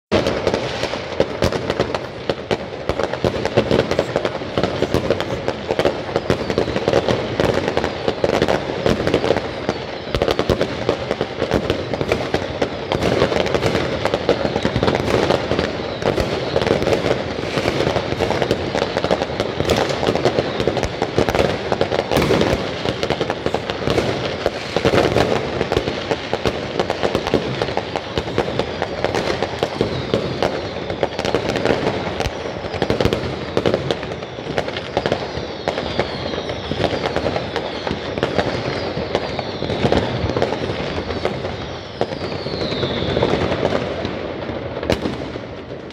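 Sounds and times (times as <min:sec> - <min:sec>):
fireworks bangs and crackles: 0:00.1 - 0:45.9.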